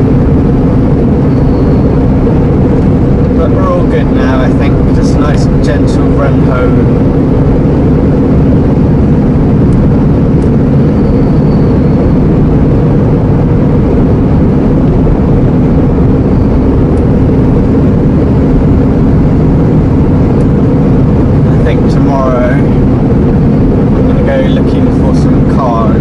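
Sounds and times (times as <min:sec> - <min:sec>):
lorry diesel engine drone: 0:00.0 - 0:26.0
road noise: 0:00.0 - 0:26.0.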